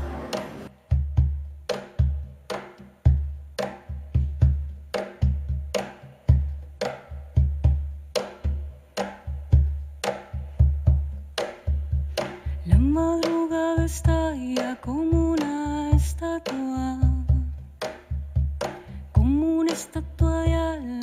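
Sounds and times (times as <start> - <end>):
cajon drumming by hand: 0.0 - 21.0.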